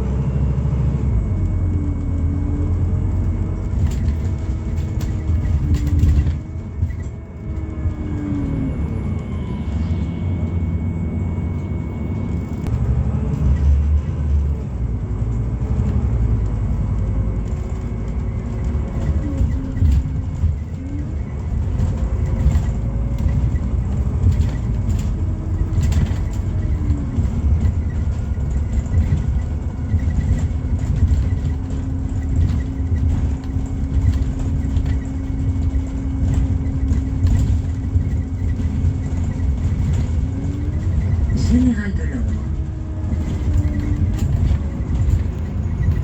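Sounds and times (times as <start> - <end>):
bus engine low rumble: 0.0 - 46.0
engine whine: 0.0 - 46.0
body rattles and knocks: 1.1 - 9.2, 10.4 - 46.0.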